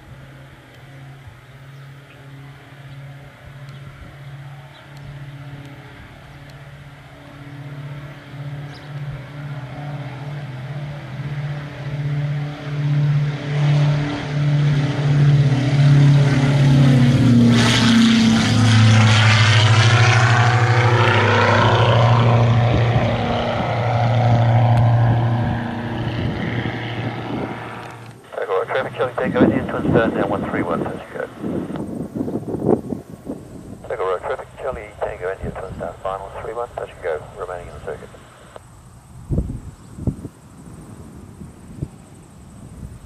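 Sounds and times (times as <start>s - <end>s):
propeller aircraft engine drone: 0.0s - 43.0s.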